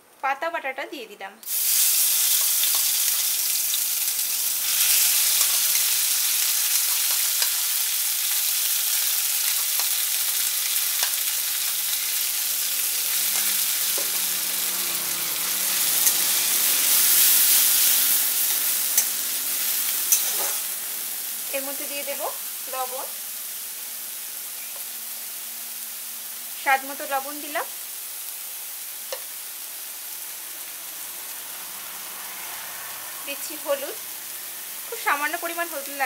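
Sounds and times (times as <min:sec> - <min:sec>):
paste sizzling in hot oil: 0:01.4 - 0:36.0.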